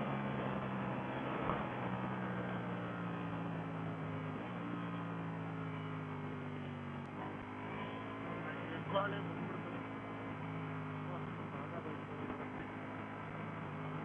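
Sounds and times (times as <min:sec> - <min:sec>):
motorcycle engine decelerating: 0:00.0 - 0:14.0.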